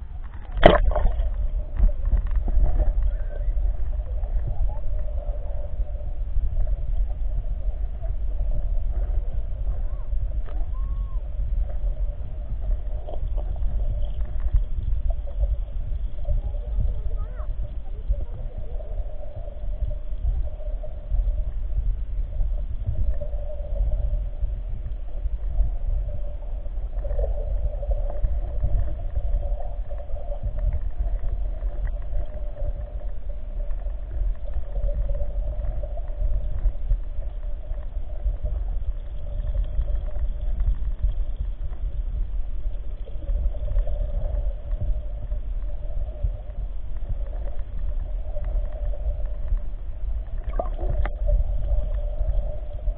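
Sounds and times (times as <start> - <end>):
muffled underwater rumble: 0.0 - 52.9
steady mid-pitched hum: 0.0 - 52.9.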